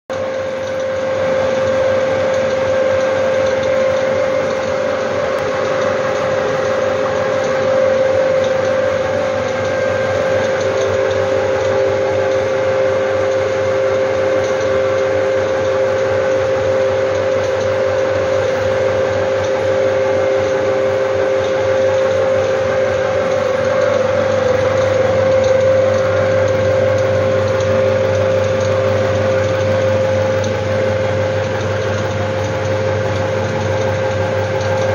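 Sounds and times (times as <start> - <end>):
film projector whirring: 0.1 - 34.9
lower whine: 0.1 - 34.9.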